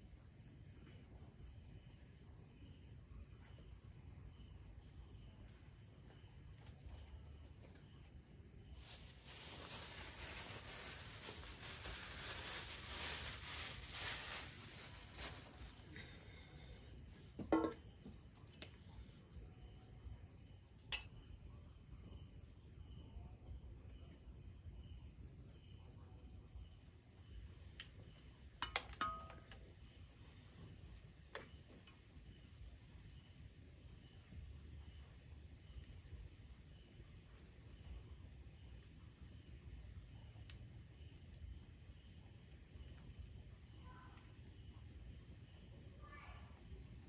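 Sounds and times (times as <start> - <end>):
night insects trilling: 0.0 - 47.0.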